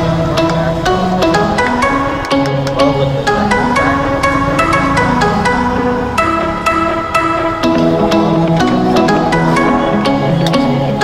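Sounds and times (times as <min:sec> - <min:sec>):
melody of short stepping notes: 0:00.0 - 0:11.0.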